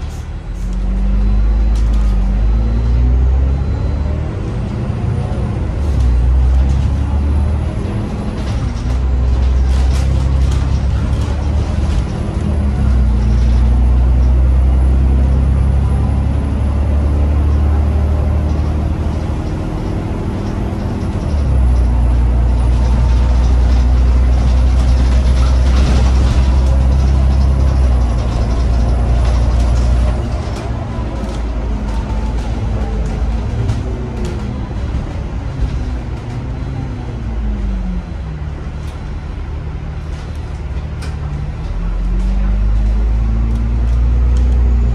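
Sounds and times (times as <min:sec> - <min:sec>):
bus diesel engine droning: 0:00.0 - 0:44.9
road and body rattle: 0:00.0 - 0:44.9.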